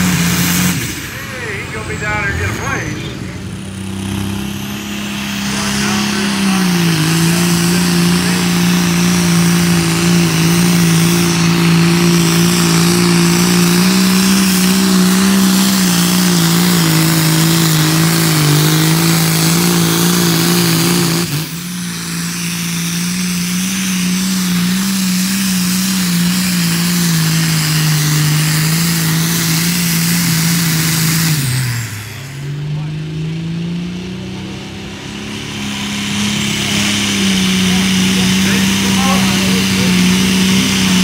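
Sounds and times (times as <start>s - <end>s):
tractor engine running at high revs: 0.0s - 41.0s.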